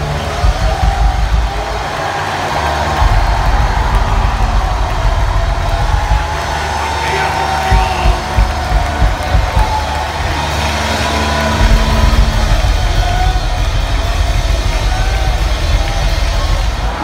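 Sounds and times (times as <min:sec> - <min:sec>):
heavy bass: 0:00.0 - 0:17.0.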